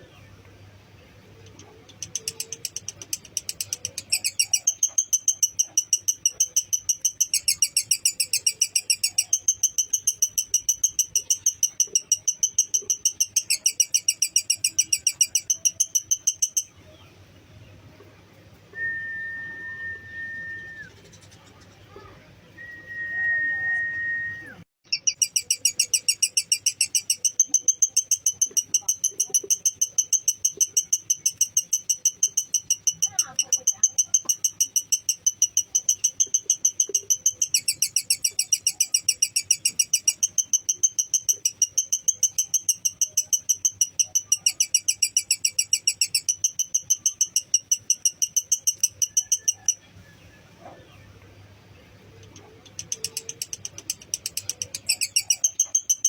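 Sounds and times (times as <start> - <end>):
bird chattering trill: 1.2 - 17.0, 20.2 - 22.2, 24.9 - 50.0, 52.0 - 56.0.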